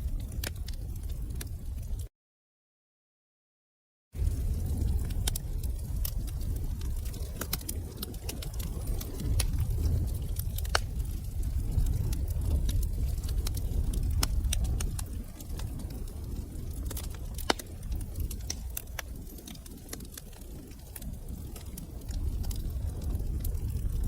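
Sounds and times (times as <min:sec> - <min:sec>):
low rumble of flames: 0:00.0 - 0:02.1, 0:04.2 - 0:24.0
wood fire crackling and popping: 0:00.0 - 0:02.1, 0:04.2 - 0:24.0.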